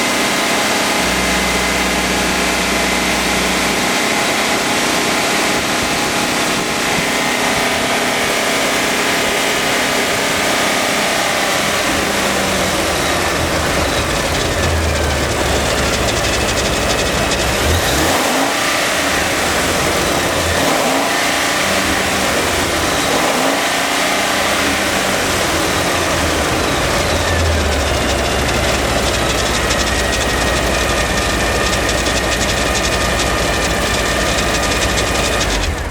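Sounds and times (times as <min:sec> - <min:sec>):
engine revving and idling: 0:00.0 - 0:35.9.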